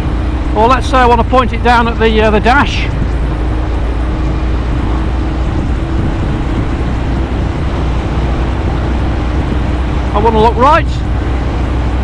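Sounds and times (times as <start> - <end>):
motorcycle engine drone: 0.0 - 12.0
wind rush: 0.0 - 12.0.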